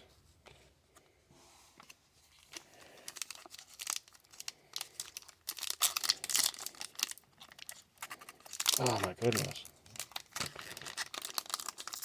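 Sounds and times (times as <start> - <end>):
card packaging crinkling and tearing: 2.4 - 12.0.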